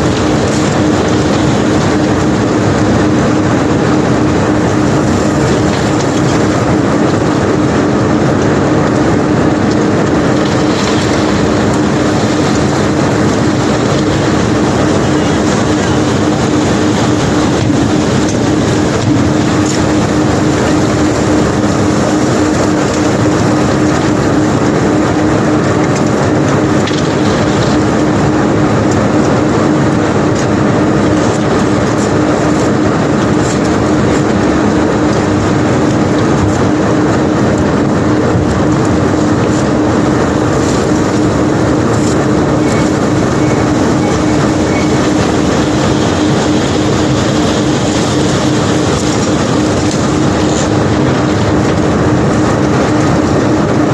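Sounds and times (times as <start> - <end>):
machinery humming: 0.0 - 53.9.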